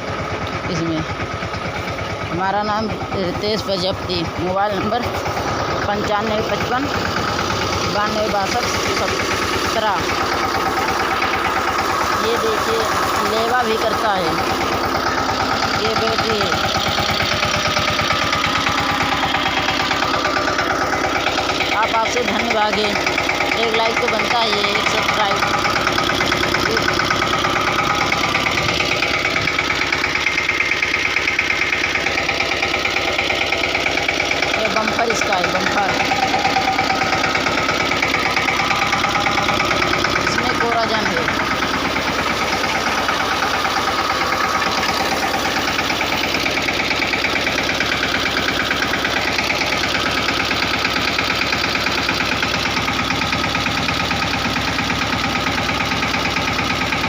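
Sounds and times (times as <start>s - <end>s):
diesel engine putter: 0.0s - 57.0s.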